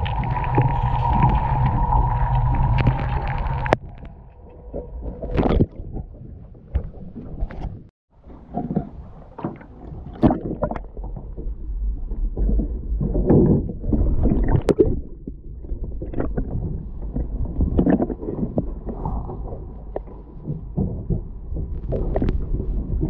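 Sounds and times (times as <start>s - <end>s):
muffled water sloshing and gurgling: 0.0s - 23.0s.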